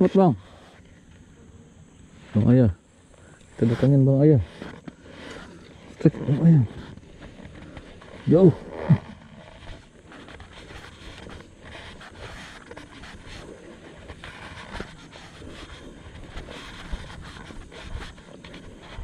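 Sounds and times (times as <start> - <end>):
faint rustling: 0.0 - 19.0.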